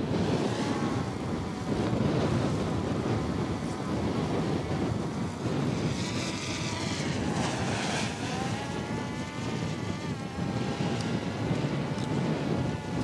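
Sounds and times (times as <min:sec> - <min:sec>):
drone propellers whining: 0:00.0 - 0:13.0
wind buffeting microphone: 0:00.0 - 0:13.0.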